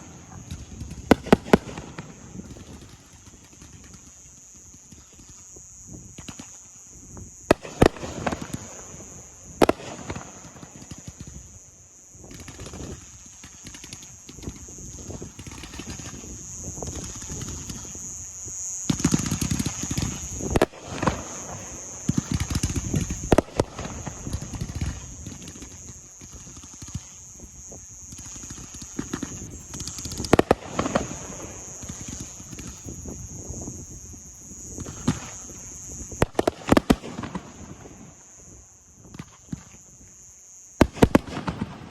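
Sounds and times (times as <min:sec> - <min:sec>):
fireworks bangs: 0:00.0 - 0:05.4, 0:06.0 - 0:40.1, 0:40.8 - 0:41.9
fireworks crackling: 0:00.0 - 0:41.9.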